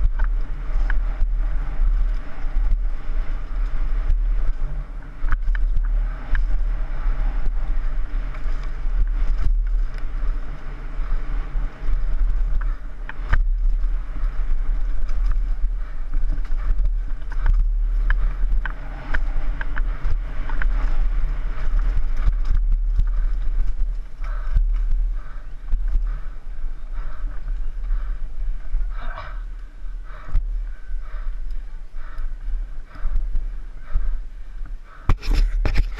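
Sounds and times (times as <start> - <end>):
bike clattering over bumps: 0.0 - 35.9
tyres on dirt: 0.0 - 35.9
wind rumble on microphone: 0.0 - 35.9.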